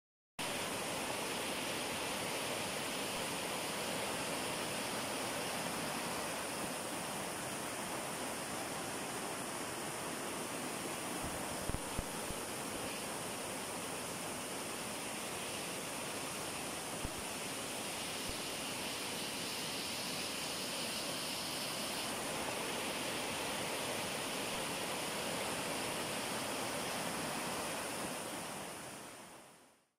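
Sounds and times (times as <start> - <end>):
river water over rocks: 0.4 - 29.6.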